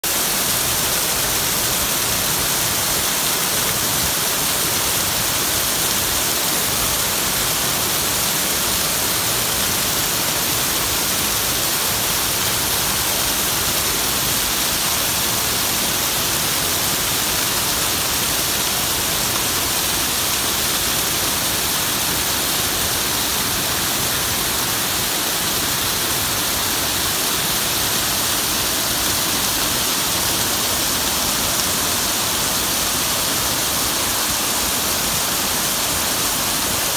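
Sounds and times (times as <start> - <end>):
waterfall splashing onto rocks: 0.0 - 36.9.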